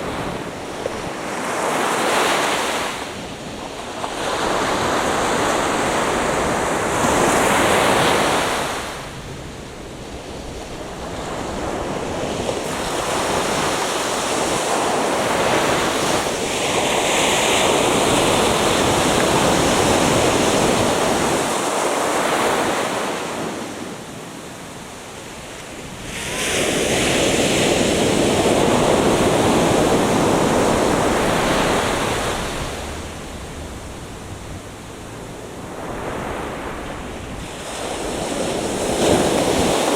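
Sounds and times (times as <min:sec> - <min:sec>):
ocean surf breaking on a beach: 0:00.0 - 0:39.9.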